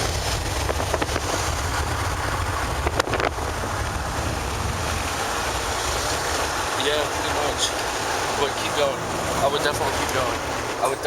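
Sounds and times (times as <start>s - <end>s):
low road rumble: 0.0s - 11.0s
wind buffeting microphone: 0.0s - 11.0s.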